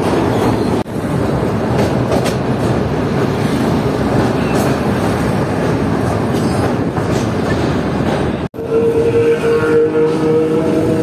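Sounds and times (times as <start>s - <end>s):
passenger train rumble: 0.0s - 11.0s.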